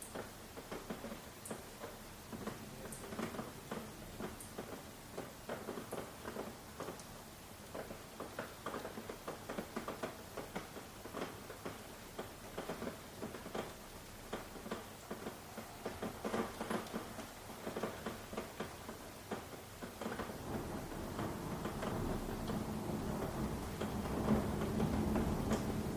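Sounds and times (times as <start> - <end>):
raindrops pattering: 0.0 - 25.9.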